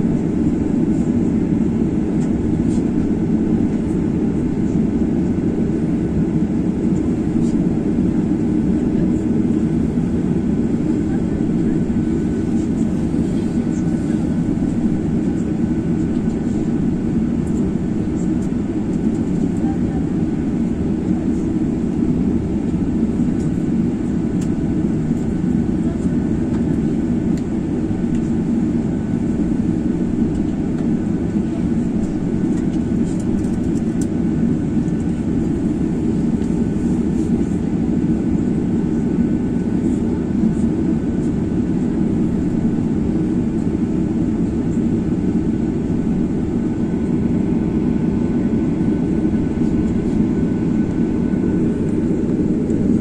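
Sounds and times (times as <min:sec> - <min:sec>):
jet engines and airflow in cabin: 0:00.0 - 0:53.0.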